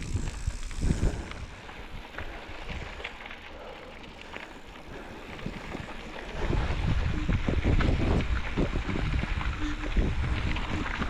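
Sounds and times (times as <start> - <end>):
wind buffeting microphone: 0.0 - 3.1, 4.9 - 11.0.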